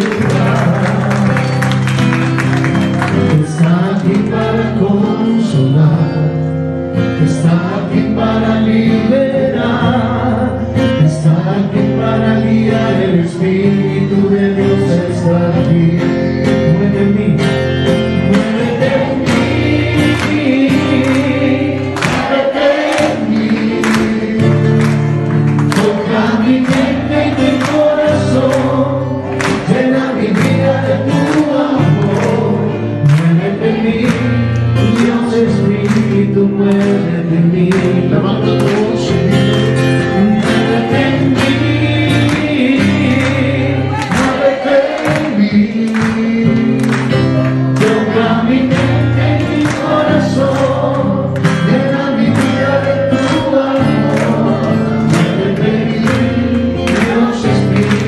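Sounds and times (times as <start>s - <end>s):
worship song with choir singing: 3.3s - 6.1s, 7.2s - 17.3s, 18.2s - 58.0s.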